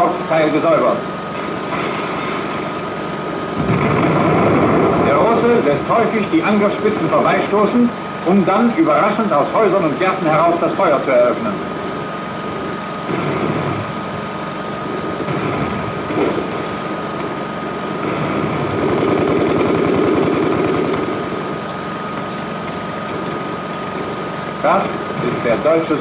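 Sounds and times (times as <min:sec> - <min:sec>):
rapid rattling battle noise: 0:00.0 - 0:26.0
steady high whine: 0:00.0 - 0:26.0.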